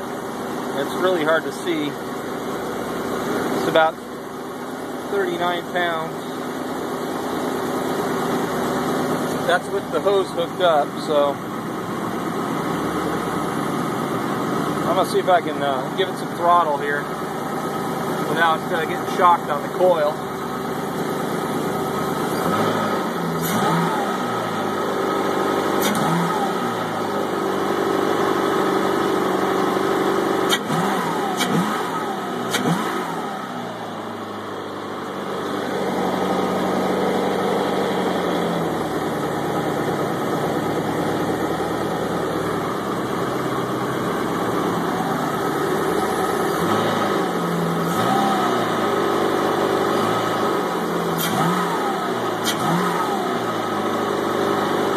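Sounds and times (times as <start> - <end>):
boat engine idling and revving: 0.0 - 54.9.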